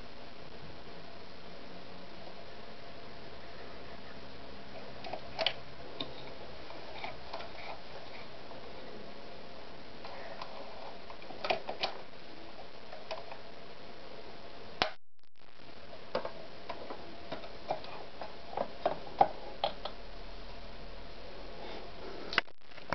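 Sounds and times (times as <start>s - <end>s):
low hiss: 0.0s - 22.9s.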